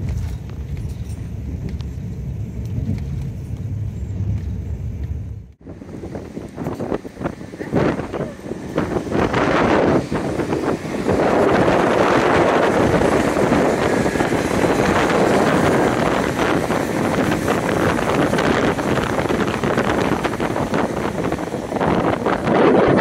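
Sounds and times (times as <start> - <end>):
diesel train pulling away: 0.0 - 23.0
wind buffeting microphone: 0.0 - 23.0.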